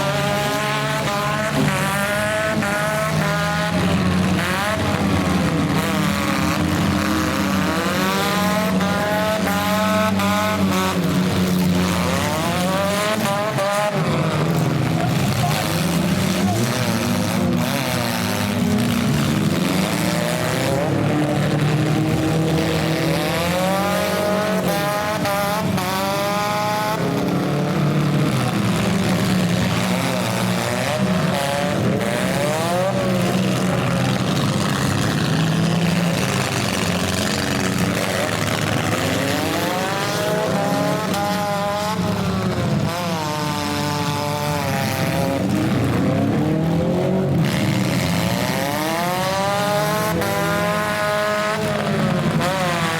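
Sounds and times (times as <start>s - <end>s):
car engines revving: 0.0s - 52.9s
steady engine drone: 0.0s - 52.9s.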